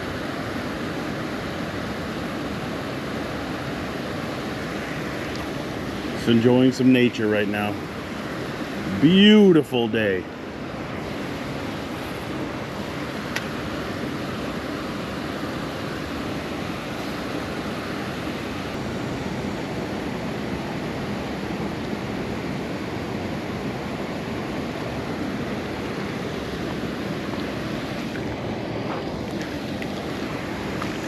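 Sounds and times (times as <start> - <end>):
water rushing over spillway: 0.0 - 31.0.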